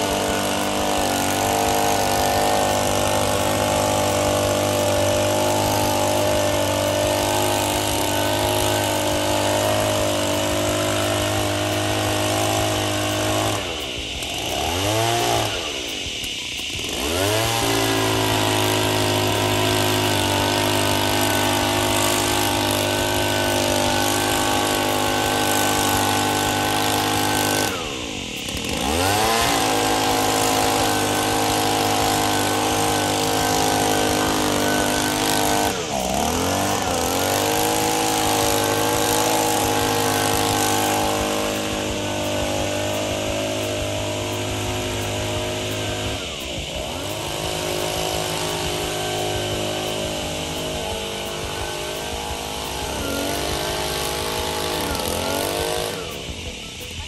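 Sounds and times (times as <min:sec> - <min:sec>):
leaf blower engine revving: 0:00.0 - 0:57.0.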